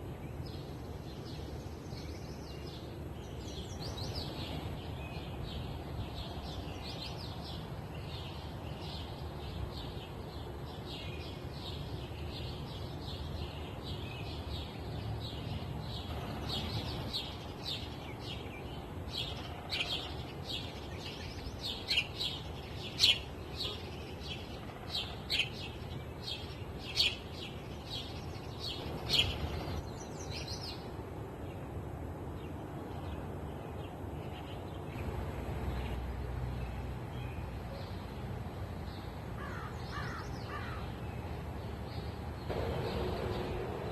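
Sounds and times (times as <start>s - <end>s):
low wind rumble: 0.0s - 43.9s
songbirds chirping: 0.0s - 43.9s.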